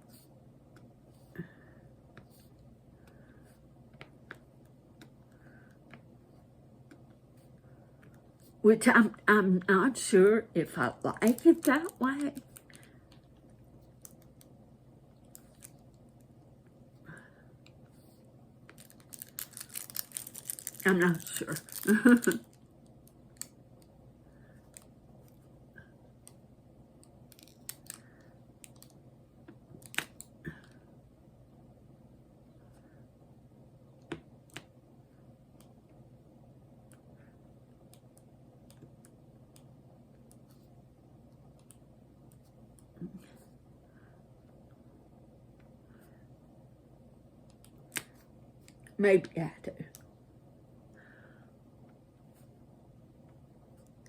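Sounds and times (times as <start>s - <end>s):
low room hum: 0.0s - 54.0s.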